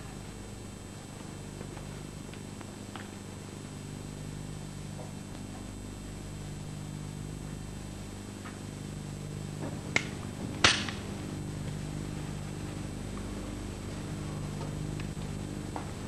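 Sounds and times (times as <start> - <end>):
faint high whine: 0.0 - 16.0
low hum: 0.0 - 16.0.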